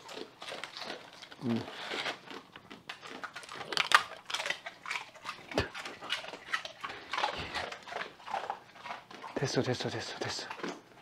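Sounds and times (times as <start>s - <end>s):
dog chewing and crunching: 0.0s - 11.0s.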